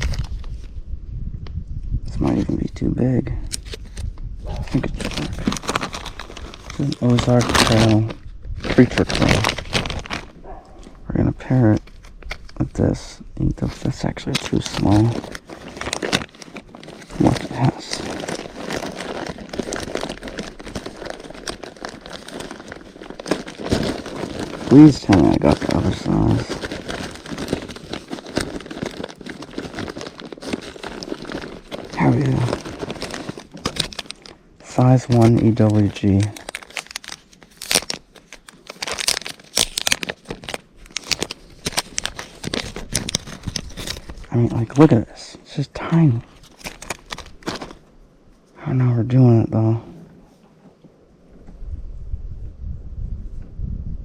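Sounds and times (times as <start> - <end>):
plastic packs rustling and clicking: 3.5 - 45.1, 46.3 - 47.9.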